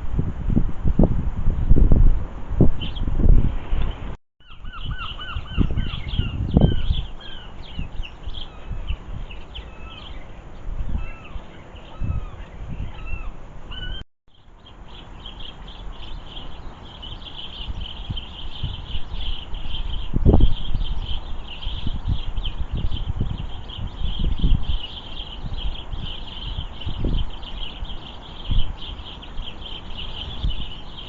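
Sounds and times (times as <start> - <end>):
wind on microphone: 0.0 - 14.0, 14.6 - 31.0
small birds chirping: 2.8 - 3.1, 3.9 - 31.0.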